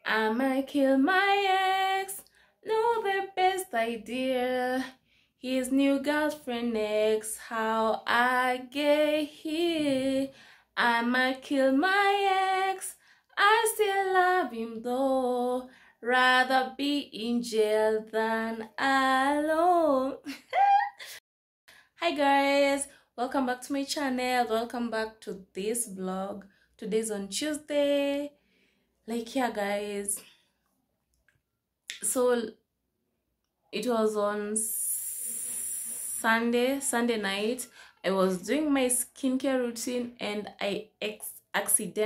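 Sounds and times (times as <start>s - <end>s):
woman singing unaccompanied: 0.0s - 21.0s, 22.0s - 28.3s, 33.8s - 42.0s.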